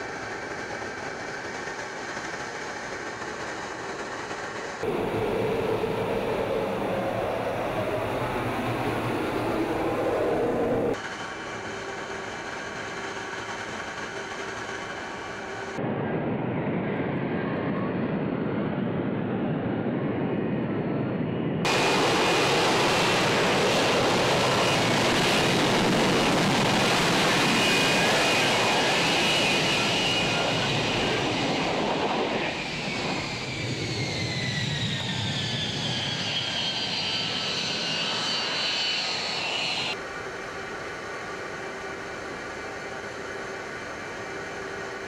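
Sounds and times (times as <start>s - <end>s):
engine whines gliding downward: 0.0s - 15.8s, 16.8s - 45.0s
jet engine roaring in hover: 0.0s - 45.0s.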